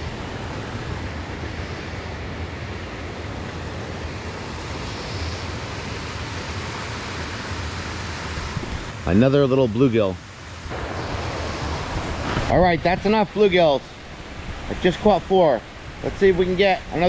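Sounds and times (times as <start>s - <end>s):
water rushing through a spillway: 0.0s - 17.0s.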